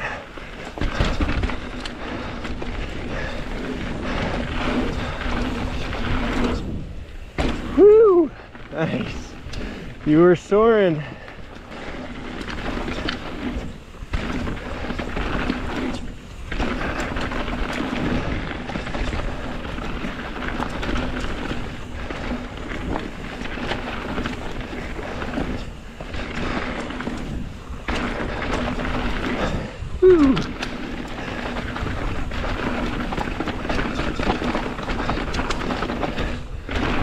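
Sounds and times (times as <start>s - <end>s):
bike tyres rolling over dirt and rocks: 0.0s - 37.0s
steady rumbling noise: 0.0s - 37.0s
wind rushing over microphone: 0.0s - 37.0s.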